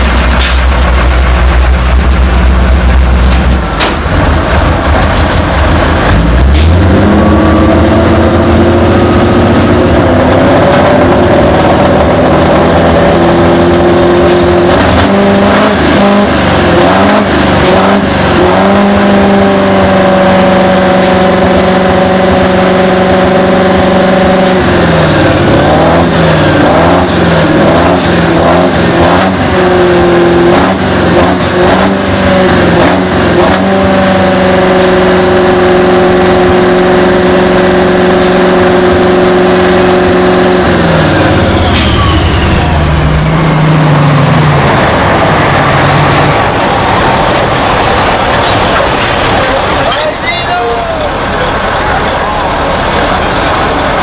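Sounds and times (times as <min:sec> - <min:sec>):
tractor engine revving high: 0:00.0 - 0:54.0.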